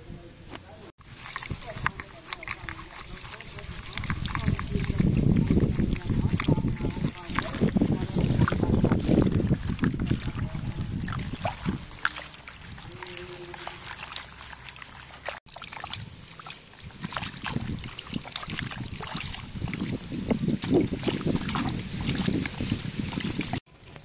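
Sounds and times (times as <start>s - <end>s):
hands swishing leaves in water: 1.0s - 24.0s
water dripping: 1.1s - 23.6s.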